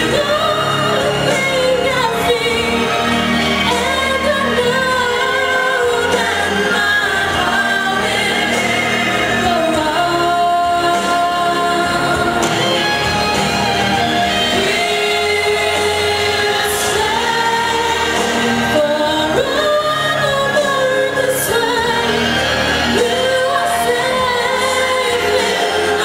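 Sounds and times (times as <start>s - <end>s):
instrumental backing track: 0.0s - 26.0s
woman singing into microphone: 0.0s - 26.0s.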